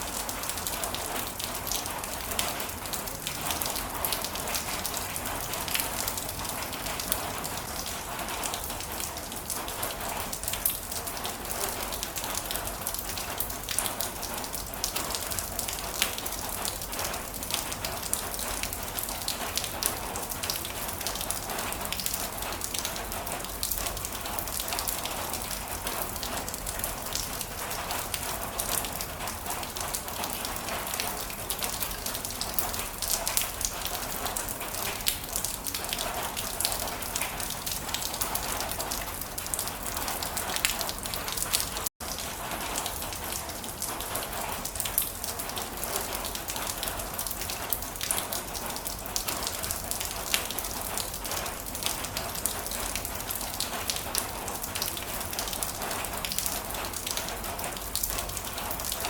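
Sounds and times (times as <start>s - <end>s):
heavy rain on a surface: 0.0s - 59.0s.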